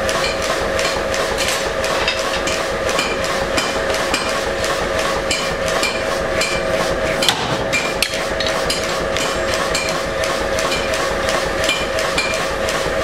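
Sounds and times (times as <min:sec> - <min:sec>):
machine hum: 0:00.0 - 0:13.0
power hammer striking metal: 0:00.0 - 0:13.0.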